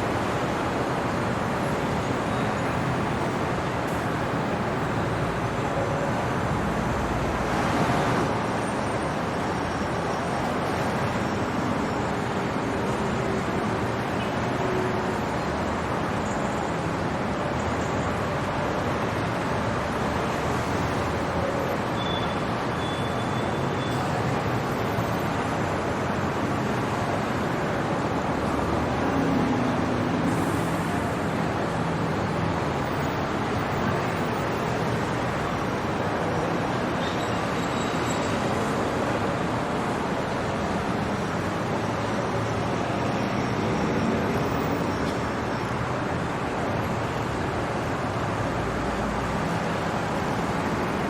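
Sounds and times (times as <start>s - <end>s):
city traffic hum: 0.0s - 51.0s.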